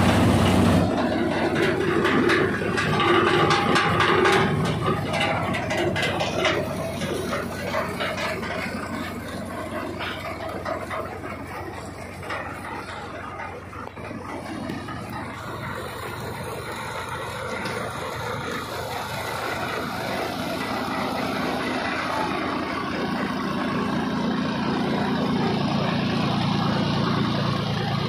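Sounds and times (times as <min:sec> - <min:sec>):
crop thresher rattling: 0:00.0 - 0:28.0.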